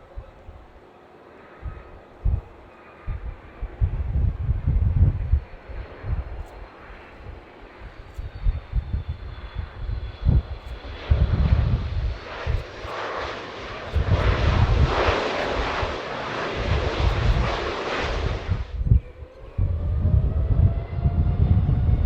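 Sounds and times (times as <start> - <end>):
wind buffeting microphone: 0.0 - 0.8, 1.5 - 22.0
jet engines roaring: 0.0 - 22.0.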